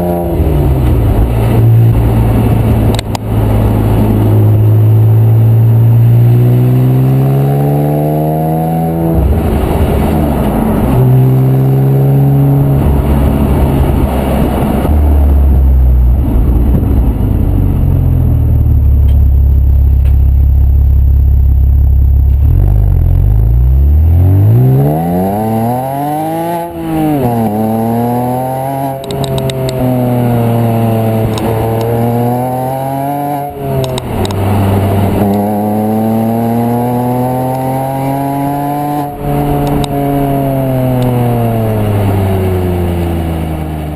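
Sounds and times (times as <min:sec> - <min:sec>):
wind noise: 0:00.0 - 0:19.4, 0:24.4 - 0:43.9
car exhaust revving: 0:00.0 - 0:43.9.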